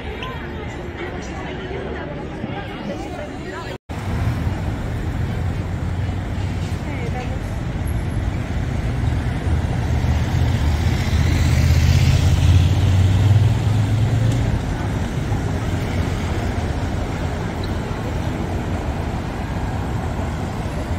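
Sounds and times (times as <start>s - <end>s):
car tyres rumbling on cobblestones: 3.9s - 20.9s
distant traffic hum: 3.9s - 20.9s.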